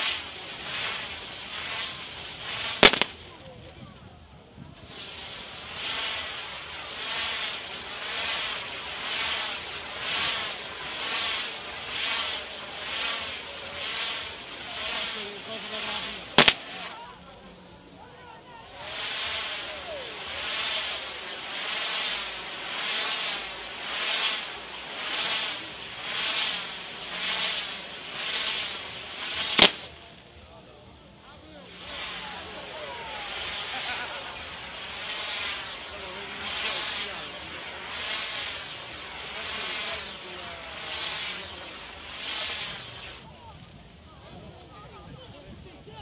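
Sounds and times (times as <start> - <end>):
firework fountains hissing: 0.0 - 46.0.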